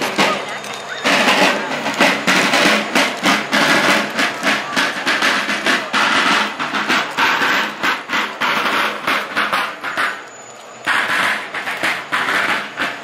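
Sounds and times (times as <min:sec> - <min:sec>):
snare drum marching cadence: 0:00.0 - 0:13.0.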